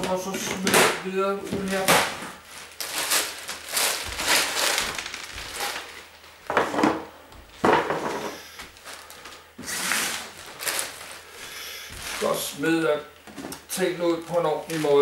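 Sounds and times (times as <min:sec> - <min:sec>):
packaging rustling and crunching: 0:00.0 - 0:06.7, 0:08.6 - 0:15.0.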